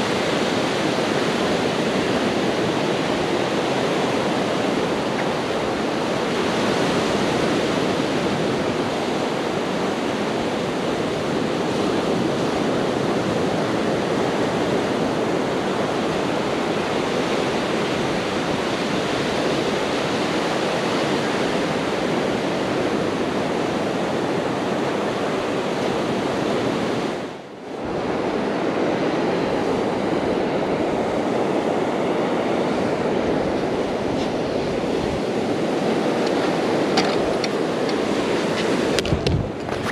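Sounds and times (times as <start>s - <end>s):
ocean surf breaking: 0.0s - 39.9s
wind on microphone: 0.0s - 39.9s.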